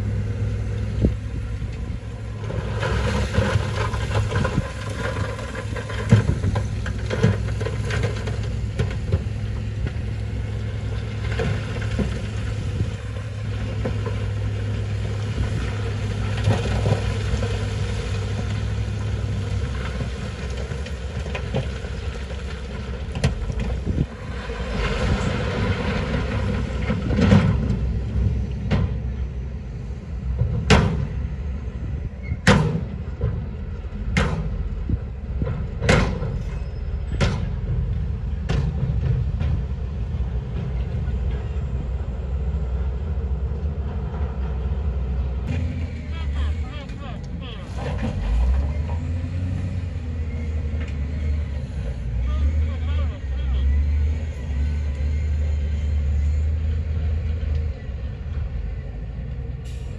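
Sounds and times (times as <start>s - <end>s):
low diesel engine hum: 0.0s - 59.9s.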